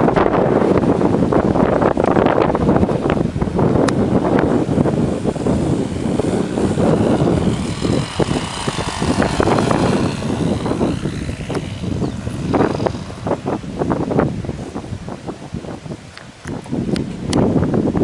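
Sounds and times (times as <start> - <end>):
model plane engine whine: 0.0 - 15.8
wind buffeting microphone: 0.0 - 18.0.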